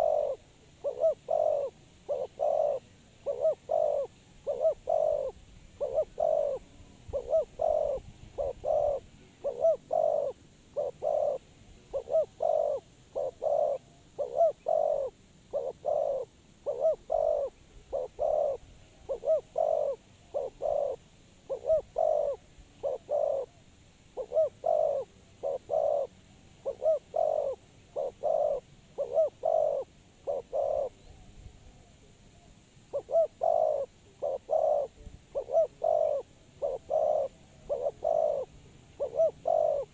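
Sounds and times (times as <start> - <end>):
dove cooing: 0.0 - 23.6, 24.2 - 31.2, 31.8 - 39.9.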